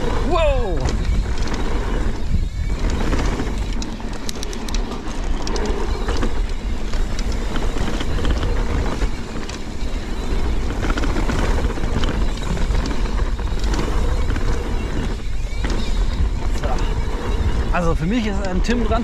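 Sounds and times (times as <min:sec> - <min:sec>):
bike rattling clicks: 0:00.0 - 0:19.0
bike tyres on dirt: 0:00.0 - 0:19.0
wind rushing: 0:00.0 - 0:19.0.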